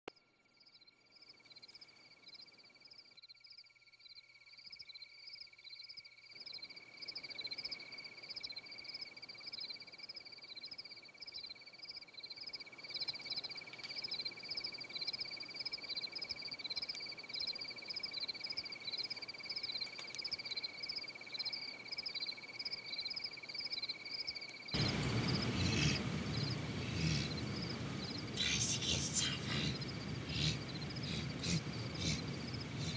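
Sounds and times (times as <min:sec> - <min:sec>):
insect chirping: 0:00.1 - 0:32.9
insect trill: 0:00.1 - 0:32.9.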